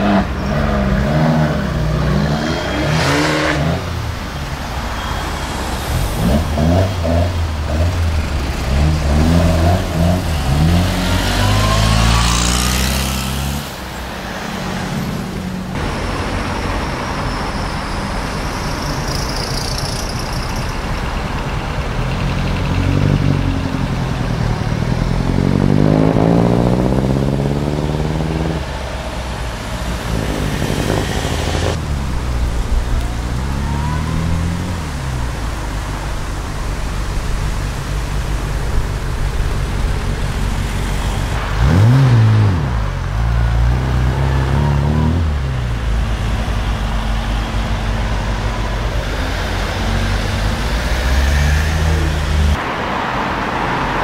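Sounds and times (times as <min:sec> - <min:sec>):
sports car engines revving: 0:00.0 - 0:54.0.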